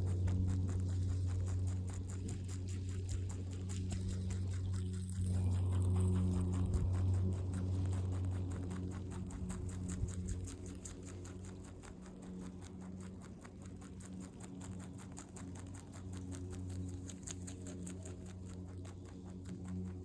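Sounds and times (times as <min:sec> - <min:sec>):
rabbit chewing crunching bites: 0:00.0 - 0:20.0
steady low hum: 0:00.0 - 0:20.0.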